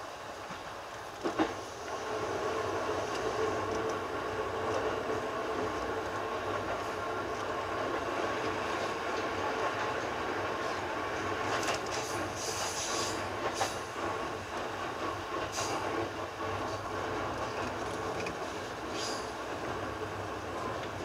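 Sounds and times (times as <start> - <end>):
train running noise: 0.0 - 21.0
rail clicks: 0.2 - 21.0.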